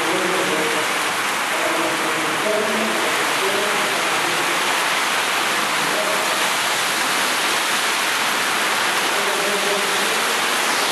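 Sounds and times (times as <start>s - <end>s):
heavy rain on a street: 0.0s - 10.9s.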